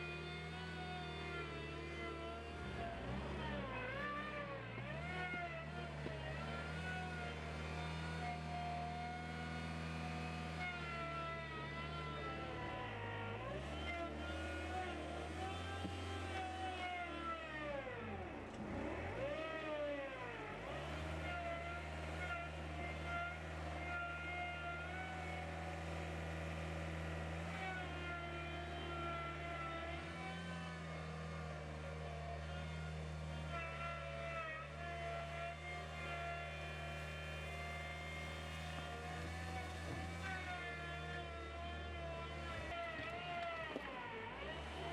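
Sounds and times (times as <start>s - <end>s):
loader engine running: 0.0s - 44.9s.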